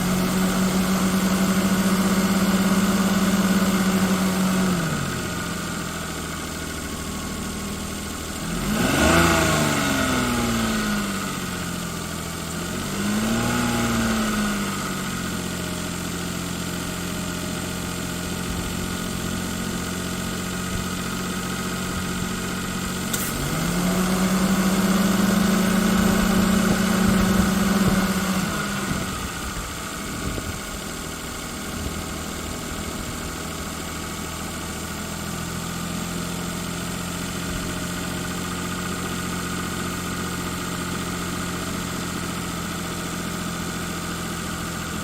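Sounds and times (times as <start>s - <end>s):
vehicle engine idling and revving: 0.0s - 45.0s.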